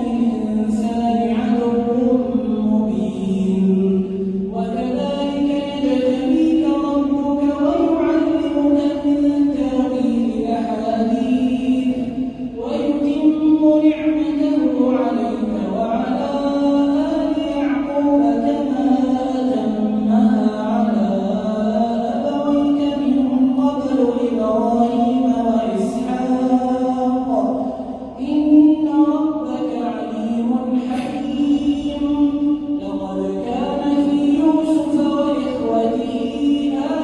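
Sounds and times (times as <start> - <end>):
man chanting melodic recitation: 0.0 - 37.0.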